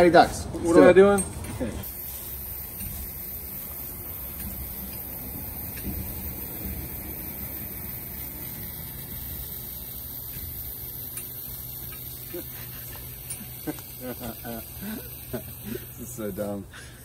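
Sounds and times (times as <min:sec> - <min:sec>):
low mechanical hum: 0:00.0 - 0:17.0
fog machine hissing: 0:01.8 - 0:17.0.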